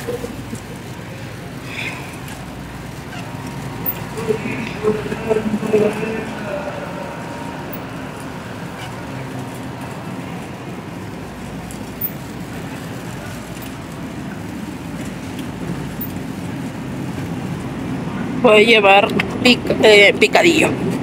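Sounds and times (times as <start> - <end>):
low supermarket rumble: 0.0 - 21.0.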